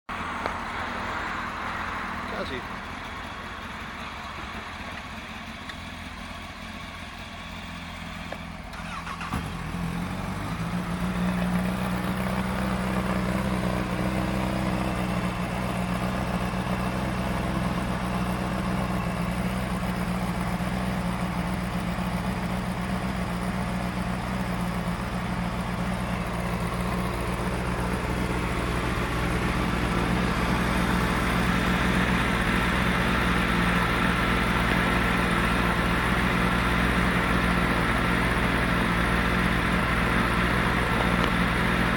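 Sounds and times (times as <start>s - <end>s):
motorcycle engine idling: 0.1s - 41.9s.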